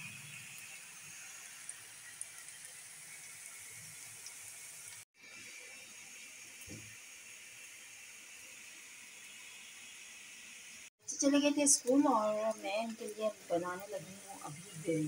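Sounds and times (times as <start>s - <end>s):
onions frying in oil: 0.0s - 15.0s
water boiling in a pot: 0.0s - 15.0s.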